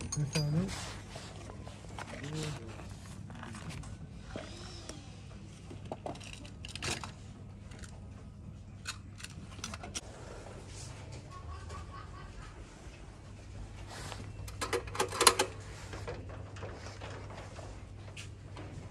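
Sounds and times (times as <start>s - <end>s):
low room hum: 0.0s - 18.9s.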